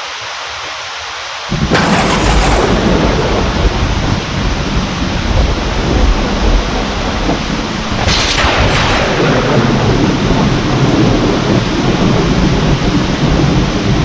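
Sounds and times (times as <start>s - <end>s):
heavy rain: 0.0s - 14.0s
sharp thunder crackle: 1.5s - 14.0s
thunder rumbling: 1.5s - 14.0s.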